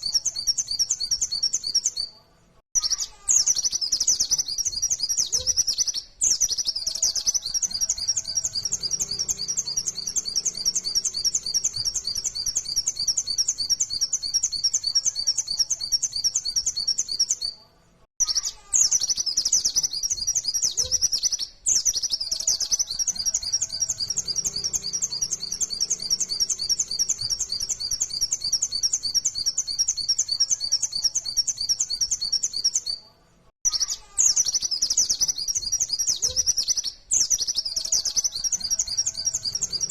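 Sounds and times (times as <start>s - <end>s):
white-eye bird twittering song: 0.0s - 2.1s, 2.8s - 17.6s, 18.2s - 33.0s, 33.7s - 39.9s.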